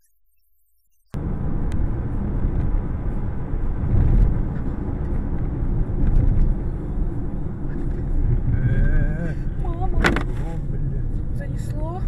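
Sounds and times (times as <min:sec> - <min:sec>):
car driving on snowy road: 0:01.1 - 0:12.0.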